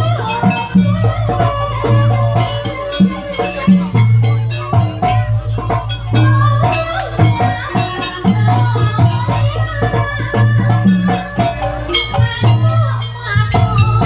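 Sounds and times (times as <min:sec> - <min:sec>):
drums and metal percussion: 0:00.0 - 0:14.0.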